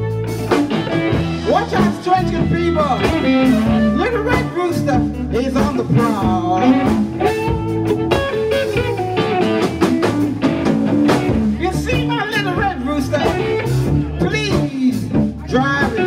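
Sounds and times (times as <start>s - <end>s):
live blues band playing: 0.0s - 16.0s.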